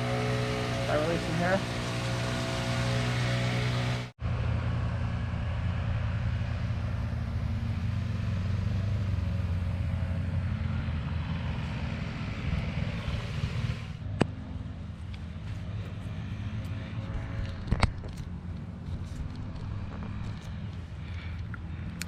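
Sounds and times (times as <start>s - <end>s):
vehicle engine rumble: 0.0s - 22.0s.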